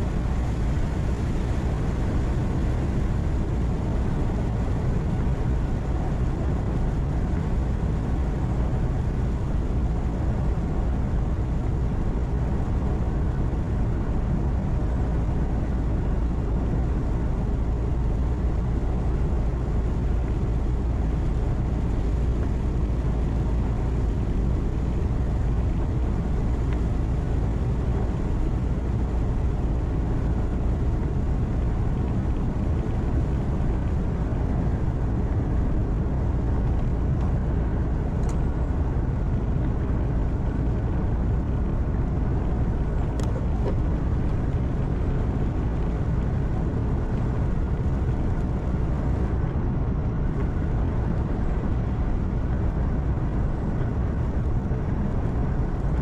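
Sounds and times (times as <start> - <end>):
truck engine hum and road noise: 0.0 - 56.0.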